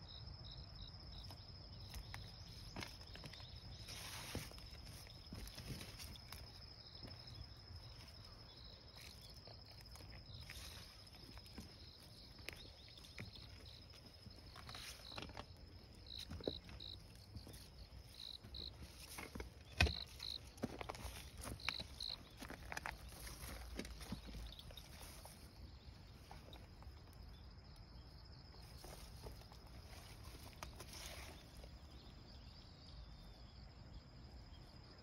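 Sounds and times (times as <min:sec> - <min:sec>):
insect chirping in short pairs: 0:00.0 - 0:35.0
insects trilling: 0:00.0 - 0:35.0
footsteps and rustles on path: 0:01.2 - 0:27.4, 0:28.5 - 0:32.0.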